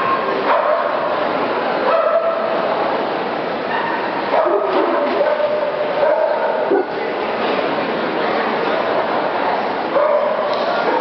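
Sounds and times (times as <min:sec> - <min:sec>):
crowd noise in a hall: 0:00.0 - 0:11.0.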